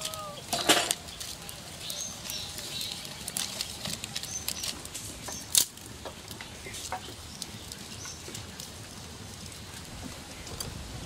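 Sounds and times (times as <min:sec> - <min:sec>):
dry fronds and sticks crackling: 0:00.0 - 0:11.0.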